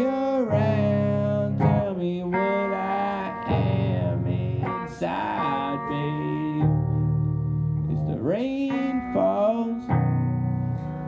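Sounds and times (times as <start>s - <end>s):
person singing: 0.0s - 10.2s
guitar chords: 0.0s - 11.0s.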